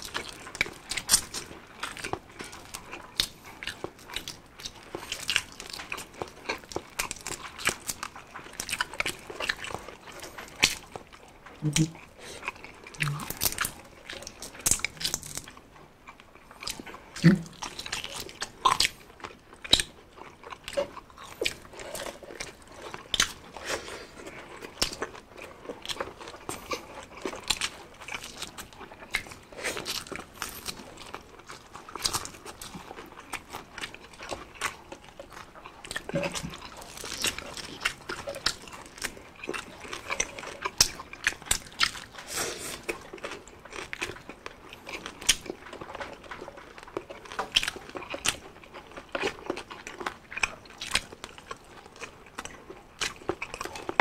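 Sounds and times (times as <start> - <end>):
people chewing crispy food: 0.0 - 54.0.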